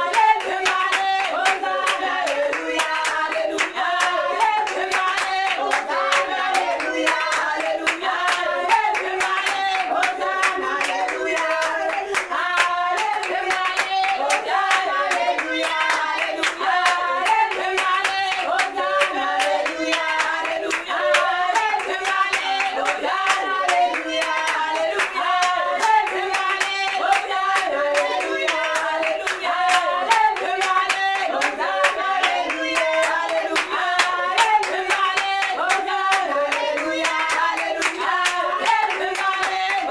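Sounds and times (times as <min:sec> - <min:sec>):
congregation singing: 0:00.0 - 0:39.9
rhythmic hand clapping: 0:00.0 - 0:39.9.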